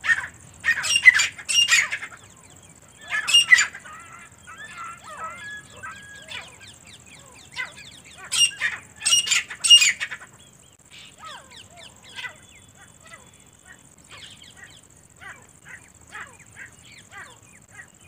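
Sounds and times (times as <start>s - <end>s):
francolins calling: 0.0s - 18.0s.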